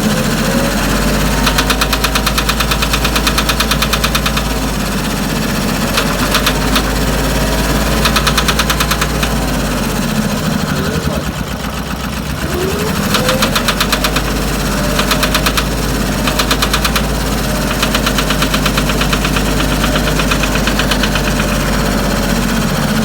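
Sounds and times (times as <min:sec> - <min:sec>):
fast even valve tapping: 0:00.0 - 0:22.5
diesel tractor engine idling: 0:00.0 - 0:23.0.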